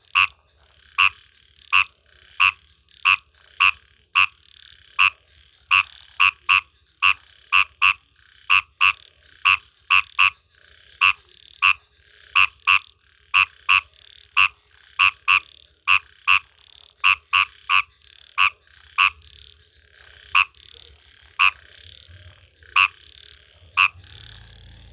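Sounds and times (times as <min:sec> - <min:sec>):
chorus of frogs calling: 0:00.0 - 0:24.9
frog croaking sharply: 0:00.0 - 0:24.9.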